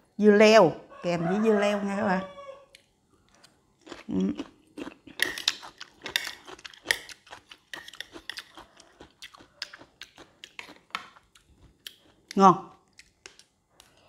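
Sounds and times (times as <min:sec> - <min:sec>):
person chewing: 0:02.7 - 0:14.0.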